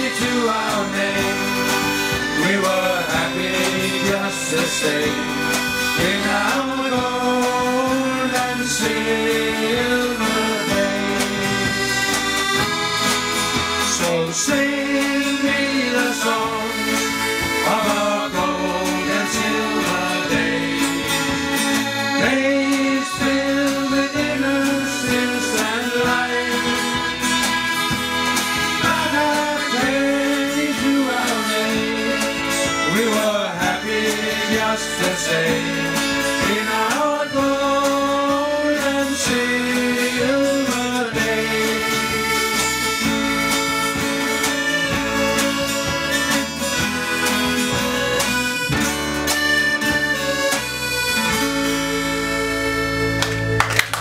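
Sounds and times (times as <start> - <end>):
accordion: 0.0 - 54.0
bass guitar: 0.0 - 54.0
drums: 0.0 - 54.0
electric guitar: 0.0 - 54.0.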